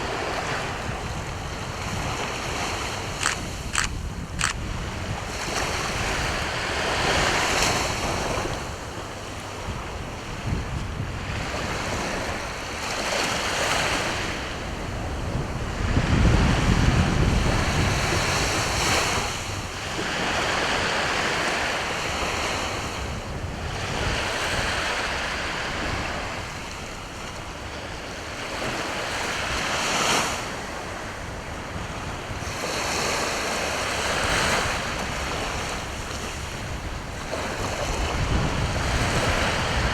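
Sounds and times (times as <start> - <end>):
sea waves breaking on shore: 0.0 - 39.9
wind buffeting microphone: 0.0 - 39.9.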